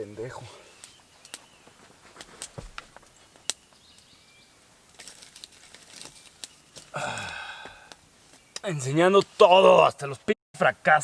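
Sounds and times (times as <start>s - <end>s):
fire crackling: 0.4s - 10.3s.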